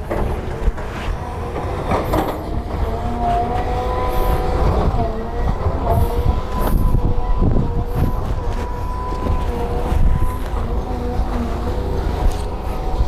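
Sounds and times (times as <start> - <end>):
excavator diesel engine running: 0.0 - 13.0
hydraulic whine: 0.0 - 13.0.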